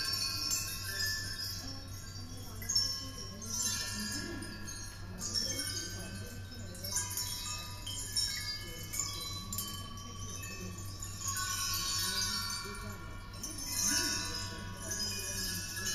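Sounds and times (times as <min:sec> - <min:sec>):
bell-like metallic tones ringing: 0:00.0 - 0:15.9.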